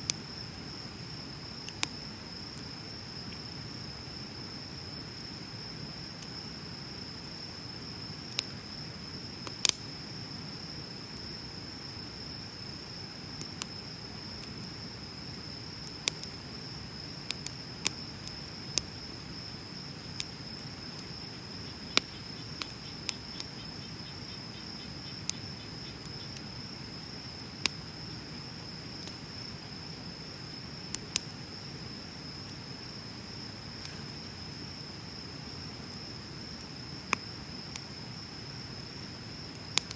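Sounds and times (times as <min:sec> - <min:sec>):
fire crackling and popping: 0:00.0 - 0:39.9
insect trill: 0:00.0 - 0:39.9
low steady rush of fire: 0:00.0 - 0:39.9.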